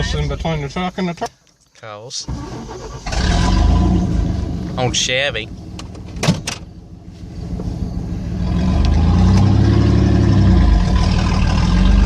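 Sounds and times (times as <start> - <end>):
pickup engine revving: 2.3 - 12.0.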